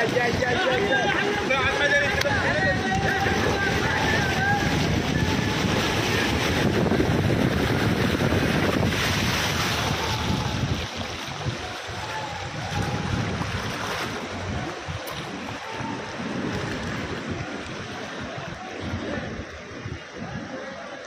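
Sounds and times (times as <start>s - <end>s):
rushing floodwater: 0.0s - 21.0s
wind buffeting microphone: 0.0s - 21.0s.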